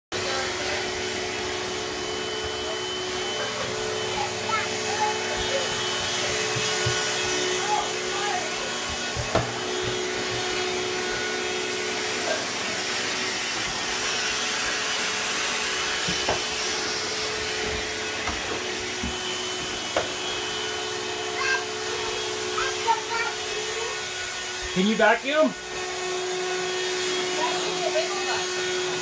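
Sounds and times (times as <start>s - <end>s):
handheld vacuum running: 0.1s - 29.0s.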